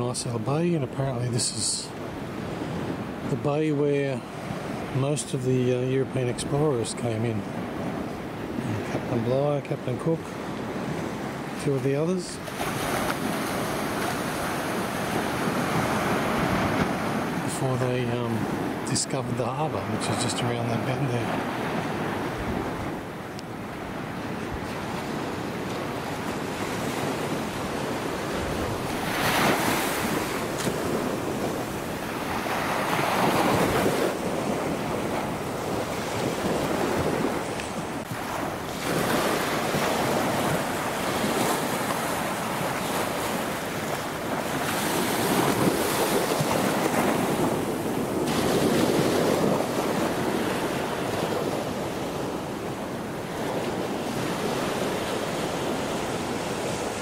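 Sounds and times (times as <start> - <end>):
ocean surf breaking: 0.0 - 57.0
wind buffeting microphone: 10.2 - 57.0.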